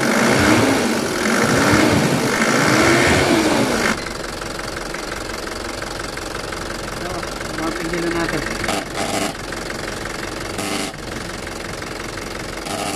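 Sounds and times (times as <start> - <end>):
diesel engine revving and idling: 0.0 - 12.9
engine fan turning: 0.0 - 12.9.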